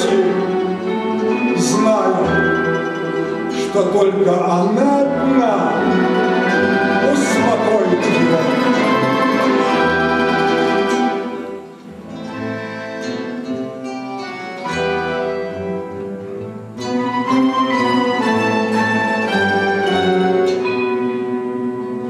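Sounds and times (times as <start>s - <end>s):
plucked strings and acoustic guitar: 0.0s - 22.0s.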